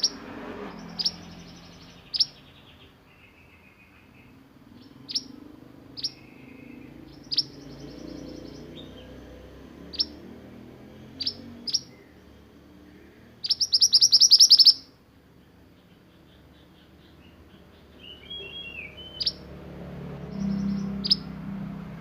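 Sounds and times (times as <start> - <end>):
songbird singing with trills: 0.0 - 22.0.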